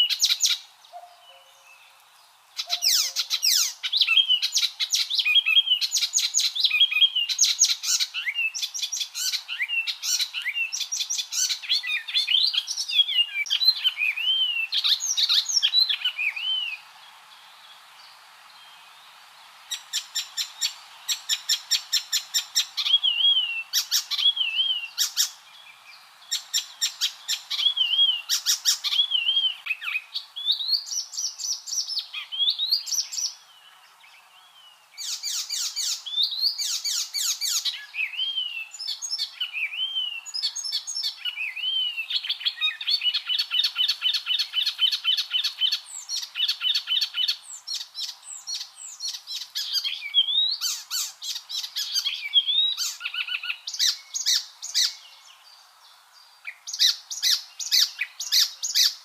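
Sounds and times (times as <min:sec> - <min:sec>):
warbler singing: 0:00.0 - 0:59.0.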